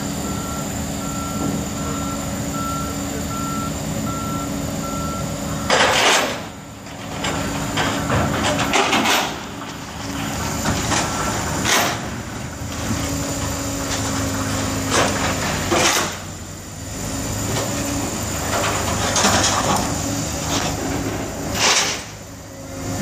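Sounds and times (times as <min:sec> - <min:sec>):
crane engine running: 0:00.0 - 0:23.0.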